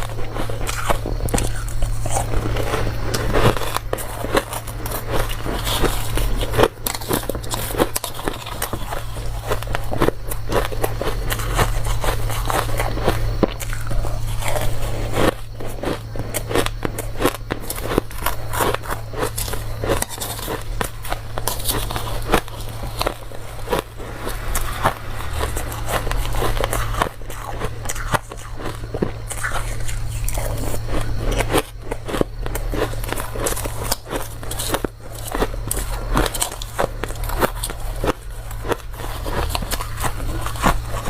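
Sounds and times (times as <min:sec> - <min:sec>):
crunching ice: 0:00.0 - 0:41.0
steady low hum: 0:00.0 - 0:41.0.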